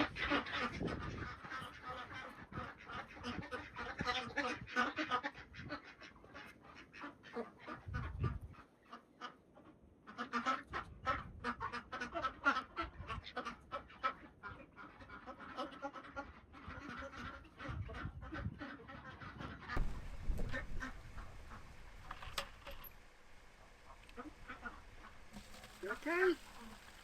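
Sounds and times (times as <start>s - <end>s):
ducks quacking: 0.0s - 27.0s.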